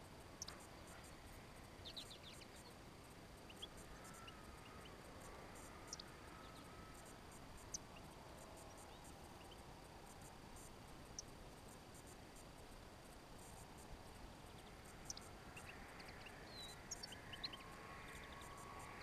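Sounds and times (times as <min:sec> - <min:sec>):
quiet steady hiss: 0:00.0 - 0:19.0
songbirds chirping: 0:00.0 - 0:19.0.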